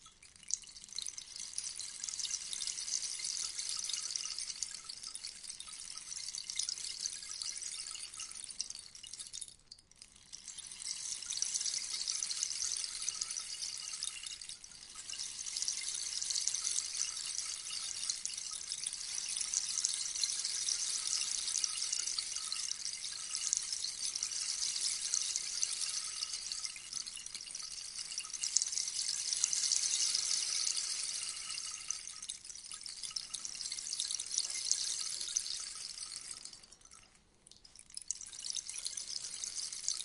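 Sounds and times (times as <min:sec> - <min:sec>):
rainstick patter: 0:00.0 - 0:40.0.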